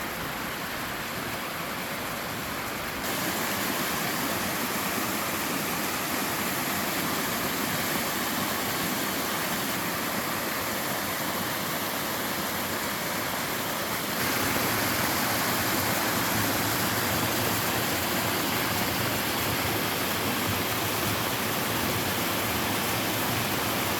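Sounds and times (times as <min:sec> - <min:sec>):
waterfall roaring: 0:00.0 - 0:23.9.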